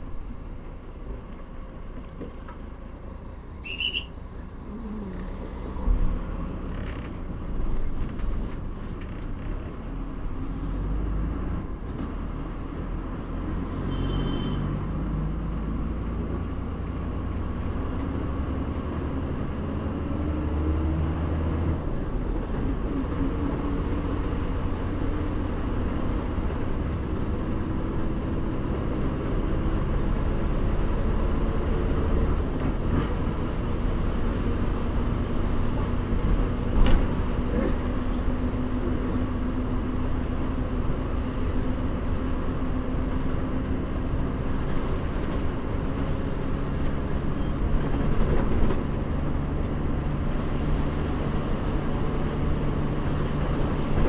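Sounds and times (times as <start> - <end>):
bus engine rumble: 0.0 - 54.0
road noise: 0.0 - 54.0.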